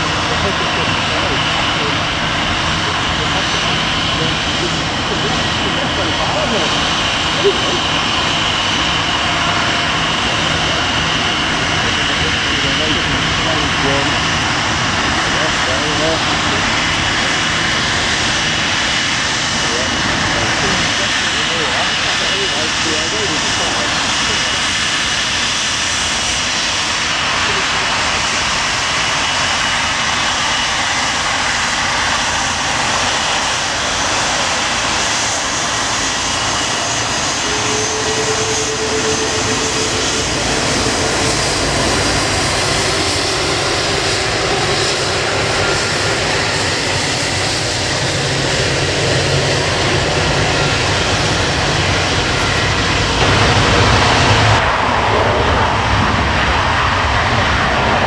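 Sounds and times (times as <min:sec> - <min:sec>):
jet engines whining at taxi power: 0:00.0 - 0:58.0.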